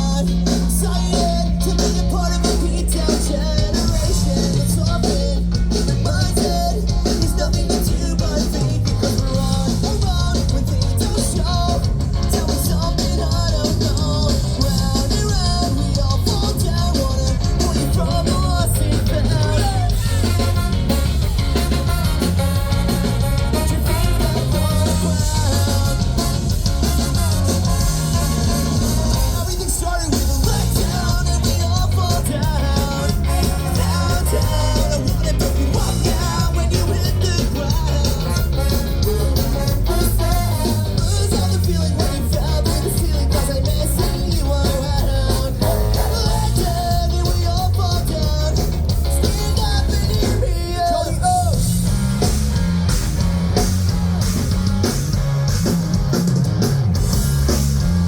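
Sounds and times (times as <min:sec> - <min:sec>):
person singing: 0:00.0 - 0:51.7
bass guitar: 0:00.0 - 0:58.0
distorted electric guitars: 0:00.0 - 0:58.0
drum kit: 0:00.0 - 0:58.0.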